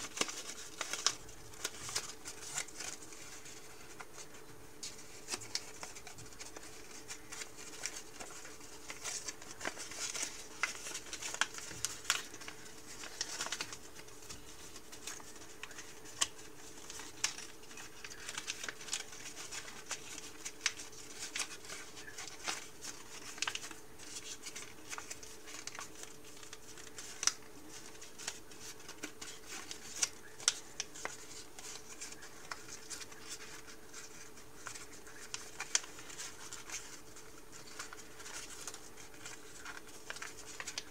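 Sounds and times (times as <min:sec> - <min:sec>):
faint steady hum: 0:00.0 - 0:40.9
paper rustling and creasing: 0:00.0 - 0:40.9.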